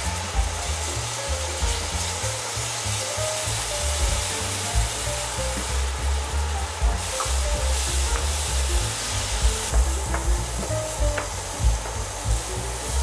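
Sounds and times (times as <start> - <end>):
garlic sizzling in oil: 0.0 - 13.0
soft background music: 0.0 - 13.0.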